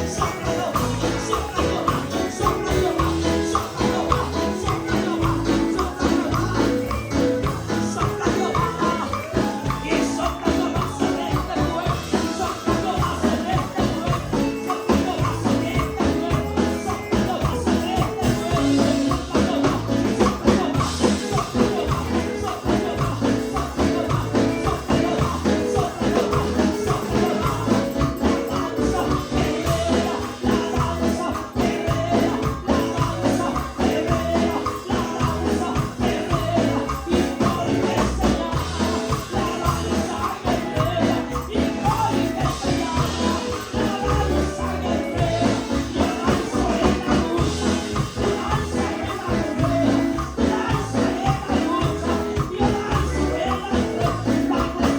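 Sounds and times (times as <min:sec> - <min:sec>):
people singing: 0:00.0 - 0:54.9
tambourine shaking: 0:00.0 - 0:54.9
upbeat worship music: 0:00.0 - 0:54.9.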